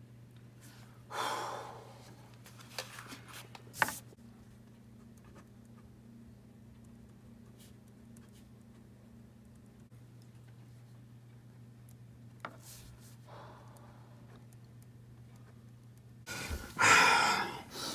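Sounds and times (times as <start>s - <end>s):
low room hum: 0.0s - 17.9s.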